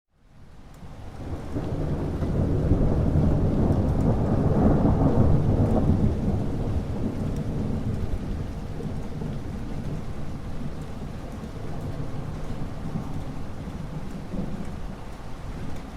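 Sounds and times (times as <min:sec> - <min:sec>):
steady rain: 0:00.1 - 0:15.9
rolling thunder: 0:01.1 - 0:15.9.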